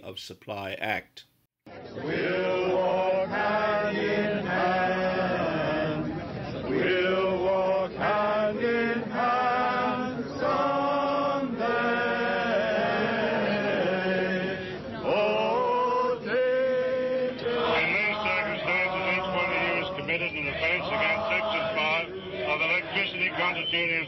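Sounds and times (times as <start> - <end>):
group singing together: 2.0 - 24.0.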